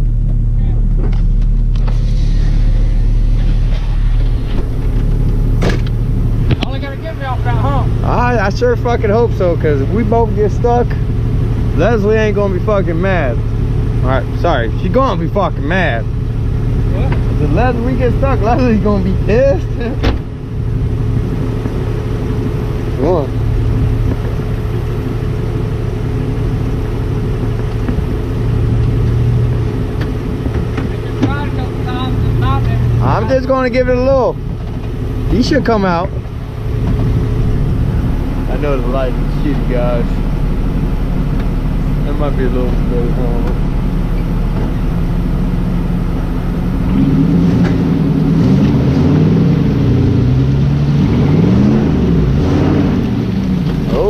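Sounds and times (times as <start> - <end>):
engine running under load: 0.0 - 54.0.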